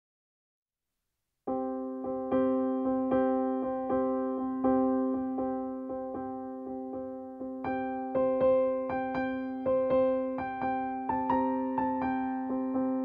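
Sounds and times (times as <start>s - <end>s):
piano music: 1.5s - 13.0s.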